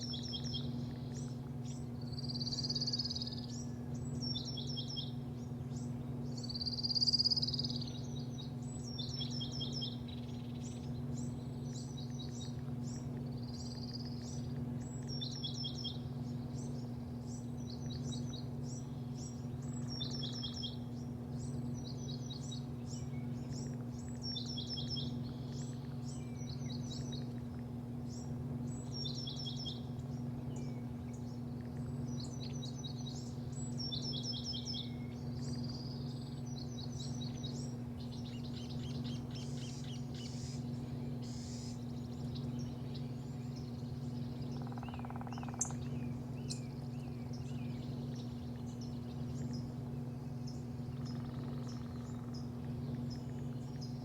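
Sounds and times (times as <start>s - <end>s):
low machine hum: 0.0s - 54.0s
small birds chirping: 0.0s - 54.0s.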